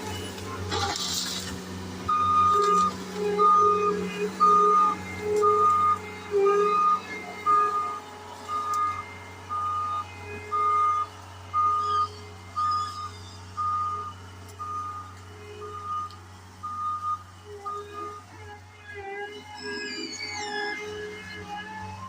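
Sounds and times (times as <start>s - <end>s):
engine running: 0.0s - 22.0s
back-up alarm beeping: 2.0s - 22.0s.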